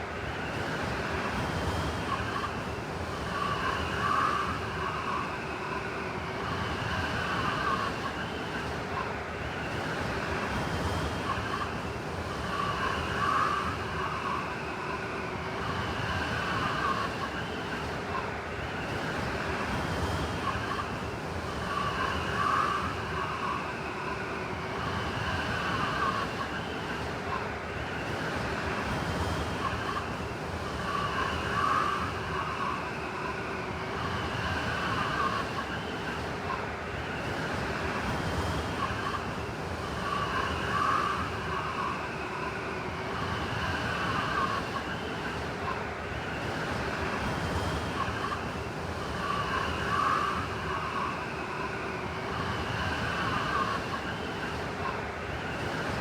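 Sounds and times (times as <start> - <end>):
blizzard wind howling: 0.0 - 56.0.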